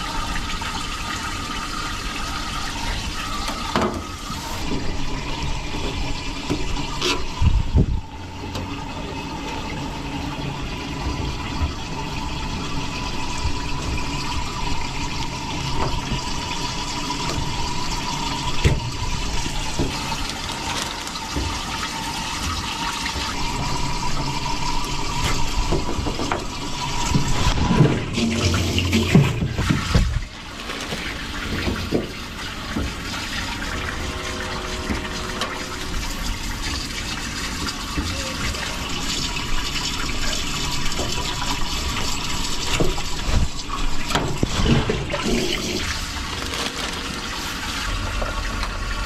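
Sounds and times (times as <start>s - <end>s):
running water: 0.0s - 49.0s.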